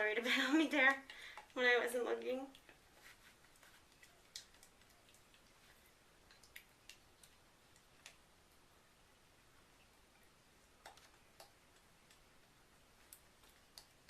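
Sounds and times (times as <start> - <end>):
faint clicks and light taps: 0.8 - 8.7, 9.7 - 14.0.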